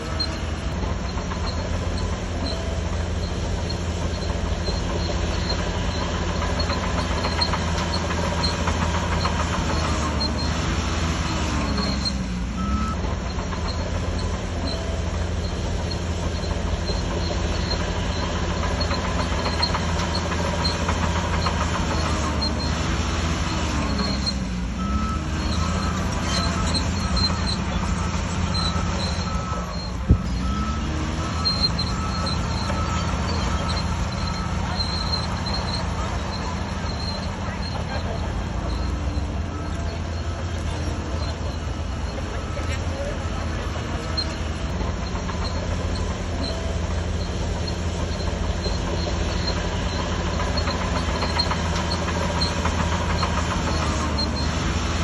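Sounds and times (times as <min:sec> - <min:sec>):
bulldozer diesel engine under load: 0:00.0 - 0:55.0
high squeaks: 0:00.0 - 0:55.0.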